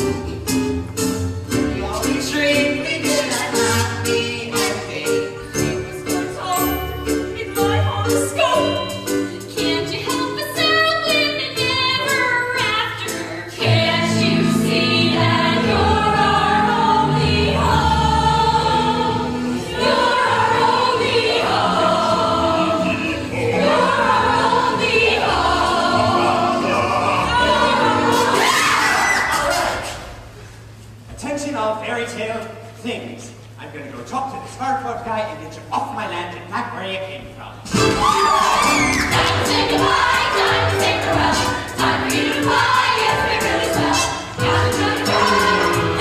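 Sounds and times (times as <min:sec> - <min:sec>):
choir singing with accompaniment: 0:00.0 - 0:30.3, 0:37.7 - 0:46.0.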